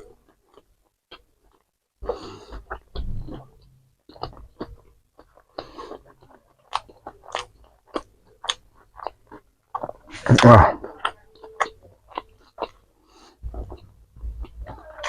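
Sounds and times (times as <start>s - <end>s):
chewing crunchy food: 0.0s - 15.0s.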